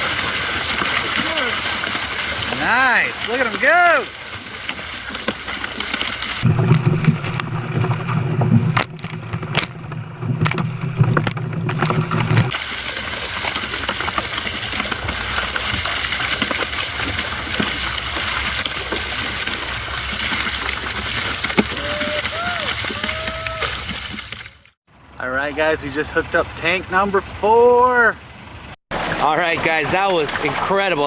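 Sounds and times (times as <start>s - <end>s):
water gushing and splashing: 0.0s - 25.2s, 25.8s - 31.0s.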